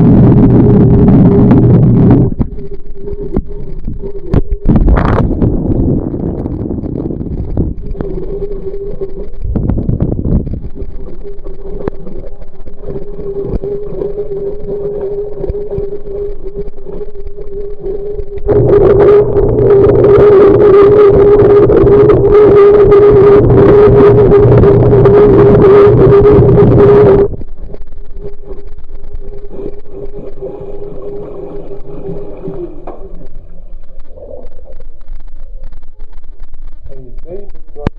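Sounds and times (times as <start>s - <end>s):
washing machine running: 4.2s - 37.9s.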